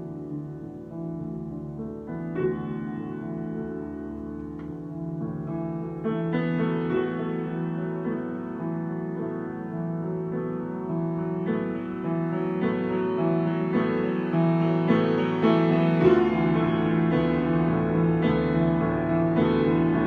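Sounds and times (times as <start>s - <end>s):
solo piano improvisation: 0.0s - 20.0s.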